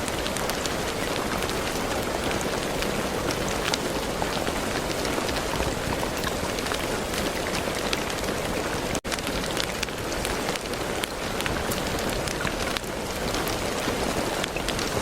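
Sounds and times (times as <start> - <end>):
rain drops hitting: 0.0 - 15.0.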